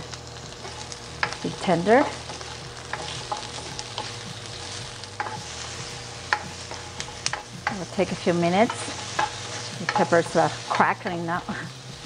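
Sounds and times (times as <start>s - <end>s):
peppers sizzling in hot oil: 0.0s - 12.0s
spatula scraping a pan: 0.6s - 11.0s.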